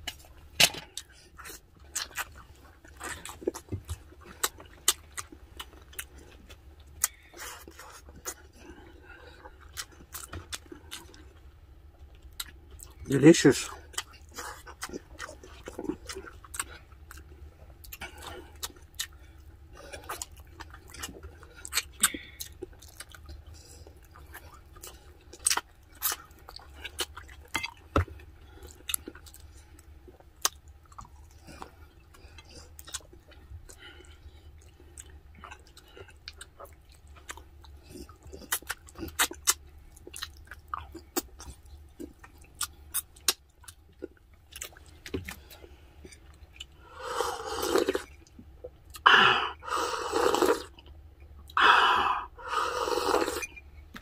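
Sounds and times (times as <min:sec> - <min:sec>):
chewing and mouth smacking: 0:00.0 - 0:46.8, 0:53.1 - 0:54.0
low steady hum: 0:00.0 - 0:54.0.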